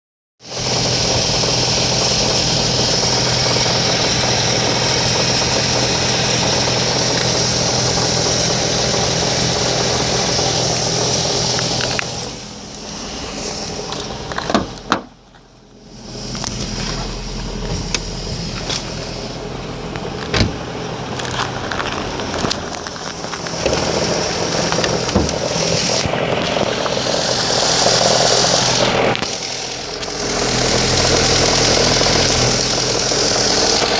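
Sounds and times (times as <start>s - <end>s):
car engine running: 0.4s - 33.9s.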